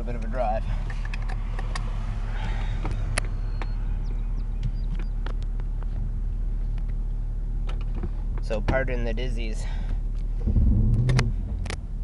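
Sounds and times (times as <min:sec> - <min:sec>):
engine running from inside cab: 0:00.0 - 0:12.0.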